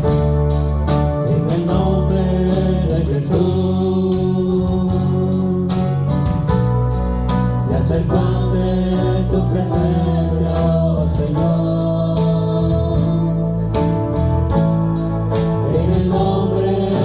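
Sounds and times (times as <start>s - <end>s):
steady bass line: 0.0s - 17.0s.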